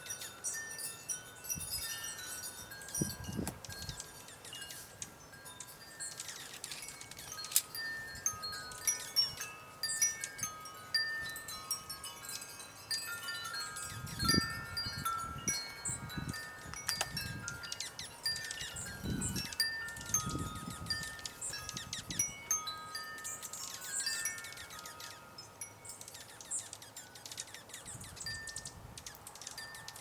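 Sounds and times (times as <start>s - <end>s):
small birds chirping: 0.0s - 30.0s
wind chimes ringing: 0.0s - 30.0s.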